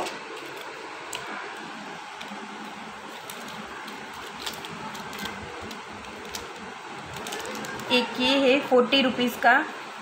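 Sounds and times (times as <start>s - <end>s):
plastic packets rustling: 0.0s - 8.0s.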